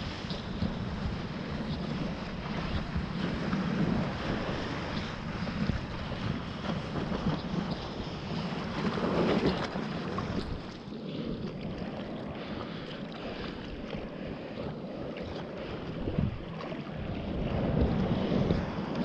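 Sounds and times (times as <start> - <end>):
water rushing and splashing: 0.0 - 19.0
wind buffeting microphone: 0.0 - 19.0.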